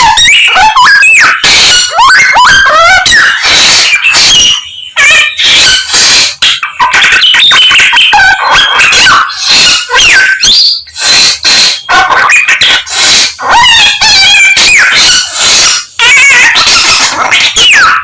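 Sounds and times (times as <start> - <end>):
songbird singing and mimicking: 0.0 - 18.0.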